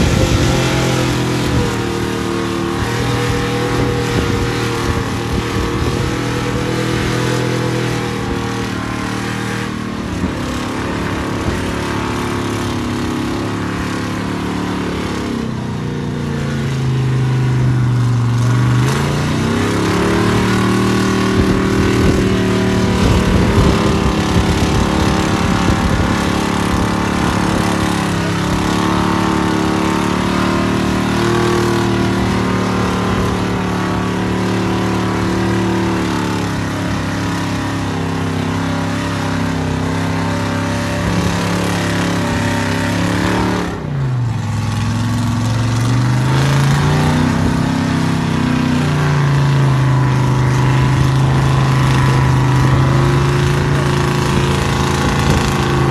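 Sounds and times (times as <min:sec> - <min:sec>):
truck engine revving in mud: 0:00.0 - 0:55.9.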